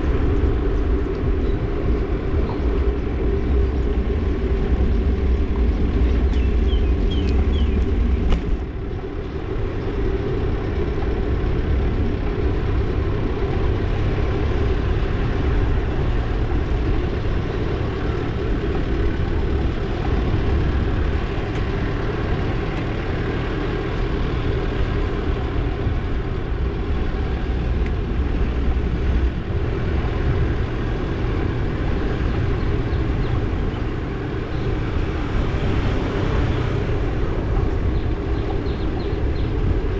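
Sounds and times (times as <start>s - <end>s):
wind and road noise rumble: 0.0s - 39.9s.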